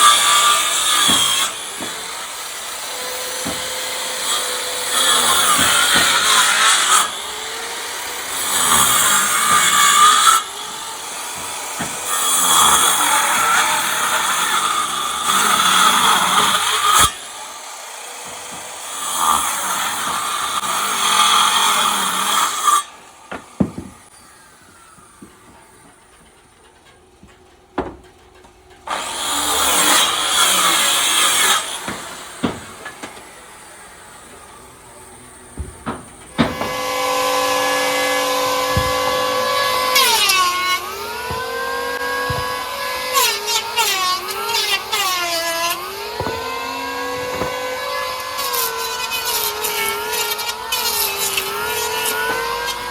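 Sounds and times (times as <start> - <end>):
power tool cutting wood: 0.0 - 26.5, 28.8 - 52.9.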